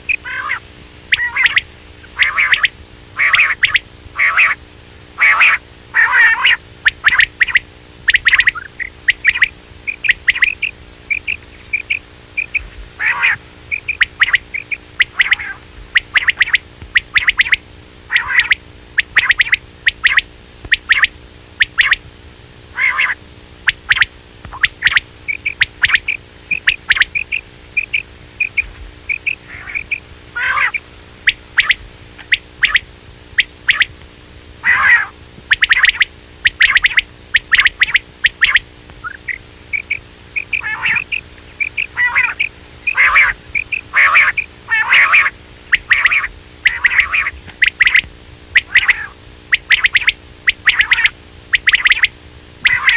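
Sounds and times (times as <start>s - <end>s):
quail calling: 0.0s - 22.1s, 22.7s - 34.0s, 34.6s - 52.9s.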